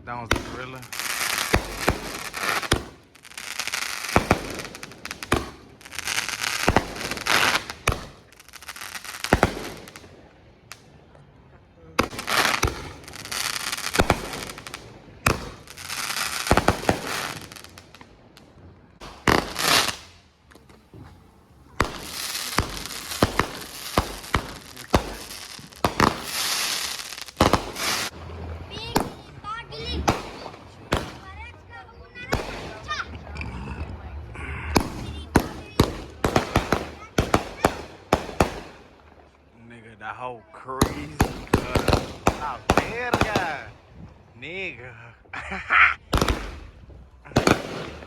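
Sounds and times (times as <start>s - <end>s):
firework shots and bangs: 0.0s - 10.9s, 12.0s - 20.9s, 21.7s - 33.1s, 34.7s - 39.3s, 40.8s - 43.9s, 46.0s - 48.0s
firework crackling bursts: 0.0s - 11.0s, 12.0s - 33.1s, 34.4s - 39.5s, 40.8s - 48.0s.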